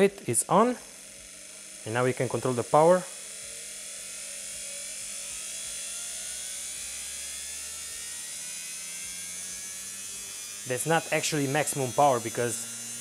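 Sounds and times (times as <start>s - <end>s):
electric motor whine rising: 0.0s - 13.0s.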